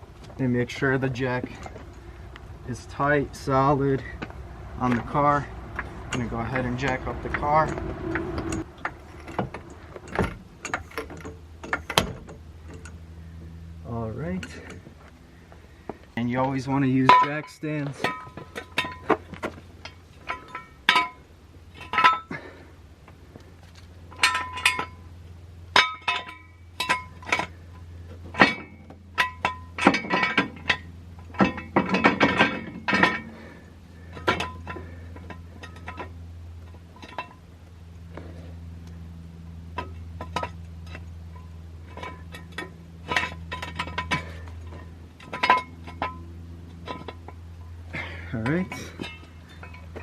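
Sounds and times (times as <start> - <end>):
metal jack stands clinking: 1.2 - 13.0, 16.4 - 22.7, 23.6 - 37.5, 39.7 - 50.0.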